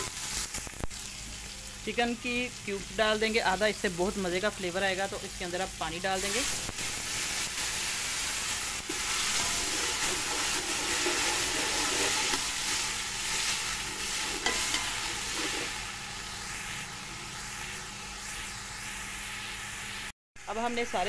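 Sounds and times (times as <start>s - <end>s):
food sizzling in hot fat: 0.0s - 21.0s.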